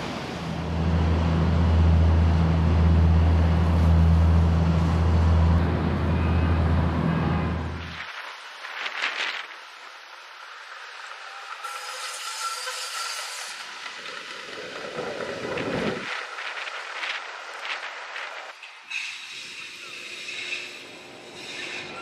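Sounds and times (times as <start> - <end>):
streetcar rolling rumble: 0.0 - 22.0.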